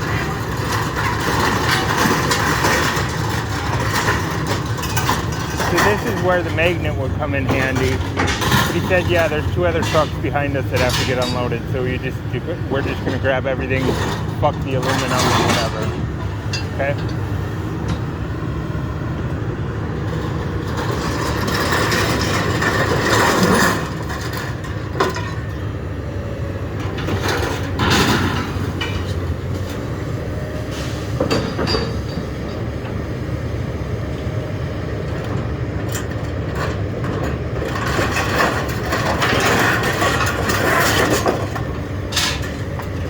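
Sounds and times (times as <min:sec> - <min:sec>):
scrap metal clanking and scraping: 0:00.0 - 0:18.0, 0:20.1 - 0:25.6, 0:26.8 - 0:29.9, 0:30.5 - 0:32.9, 0:35.1 - 0:43.0
heavy machine engine running: 0:00.0 - 0:43.0.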